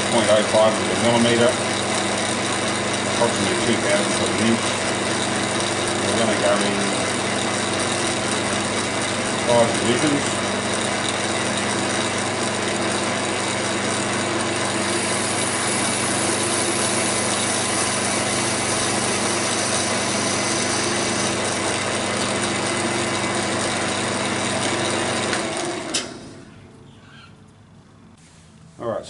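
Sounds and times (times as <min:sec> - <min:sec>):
metal lathe running: 0:00.0 - 0:26.5.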